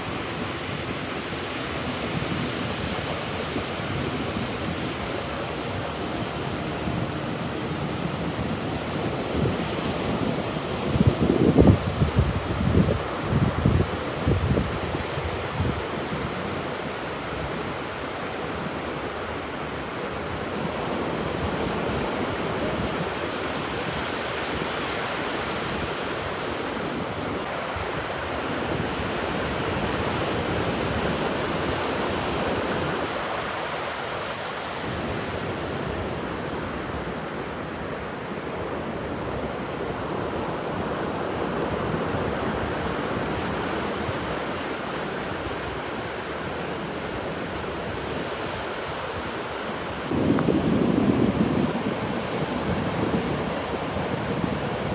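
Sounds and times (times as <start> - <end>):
wind buffeting microphone: 0.0 - 37.3, 39.2 - 54.9
ocean surf washing ashore: 0.0 - 54.9.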